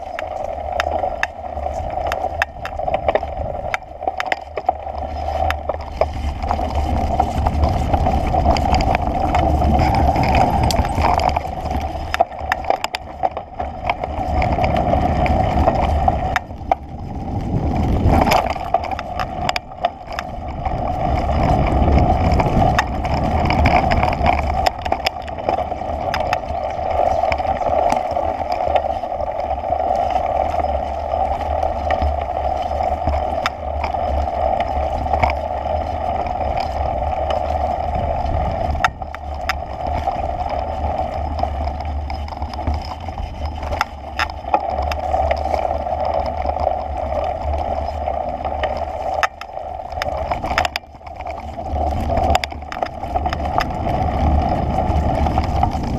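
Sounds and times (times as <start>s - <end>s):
low rumbling drone: 0.0s - 55.9s.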